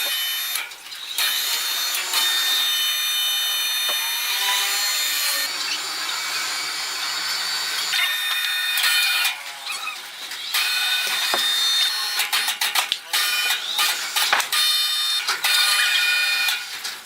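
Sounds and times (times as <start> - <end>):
saw cutting wood: 0.0 - 17.0.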